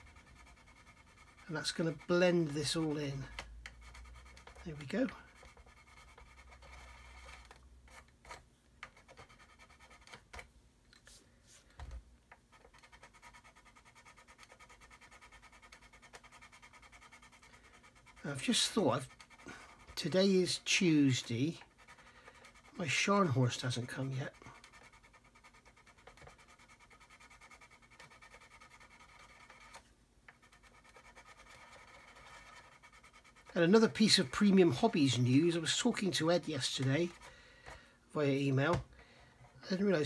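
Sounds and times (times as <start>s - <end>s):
sanding stick rasping on plastic: 0.0s - 8.1s, 12.5s - 37.3s.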